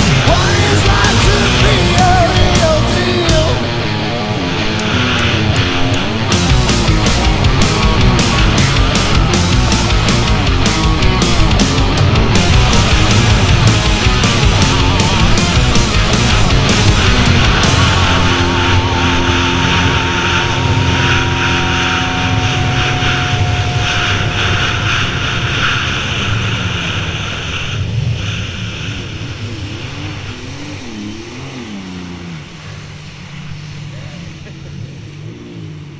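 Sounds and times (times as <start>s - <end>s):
jet ski engine: 0.0s - 35.9s
wind noise: 4.6s - 33.9s.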